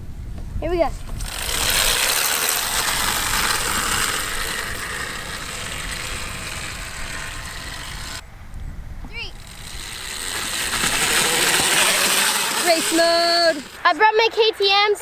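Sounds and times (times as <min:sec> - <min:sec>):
tyres on dirt: 0:00.6 - 0:08.3, 0:09.0 - 0:15.0
drivetrain and chain clatter: 0:00.8 - 0:08.2, 0:09.2 - 0:14.0.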